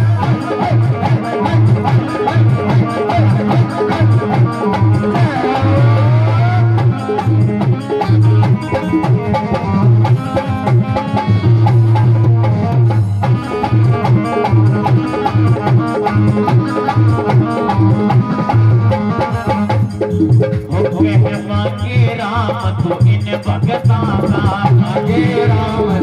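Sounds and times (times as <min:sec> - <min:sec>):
fast drum rhythm: 0:00.0 - 0:26.0.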